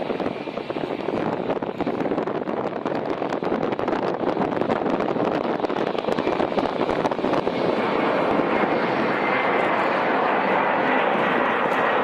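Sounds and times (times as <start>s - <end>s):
airliner rushing noise: 0.0s - 12.0s
wind crackling on microphone: 0.0s - 12.0s.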